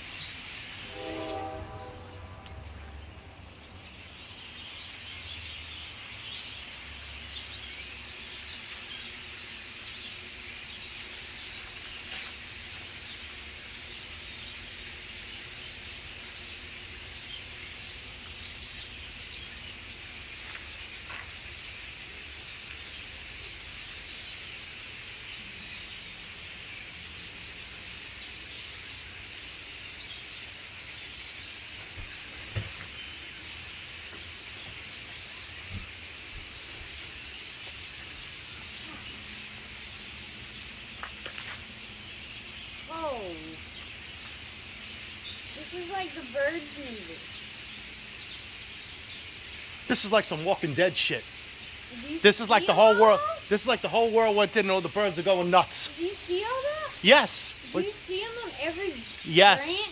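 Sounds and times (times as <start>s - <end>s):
flock of birds calling: 0.0s - 59.9s.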